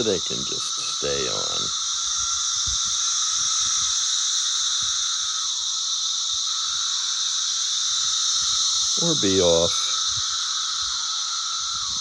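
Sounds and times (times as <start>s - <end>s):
cicada chorus buzzing: 0.0s - 12.0s.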